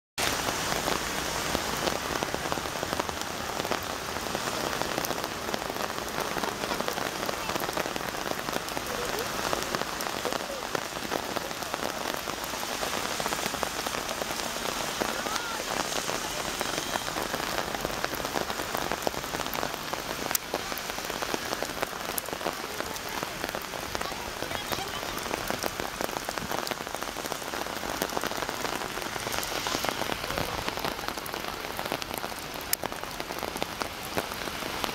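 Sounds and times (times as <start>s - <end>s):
heavy rain on pavement: 0.2s - 34.9s.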